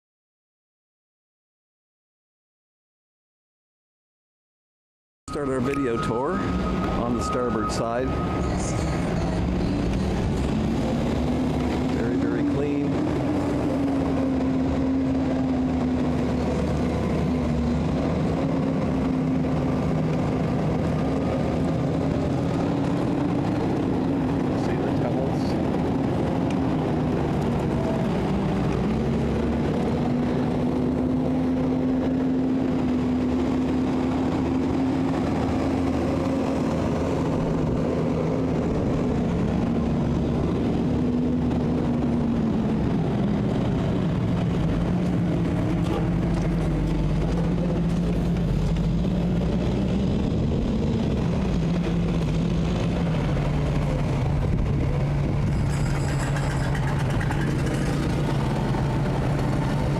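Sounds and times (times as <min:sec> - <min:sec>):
engine running: 0:05.3 - 0:59.9.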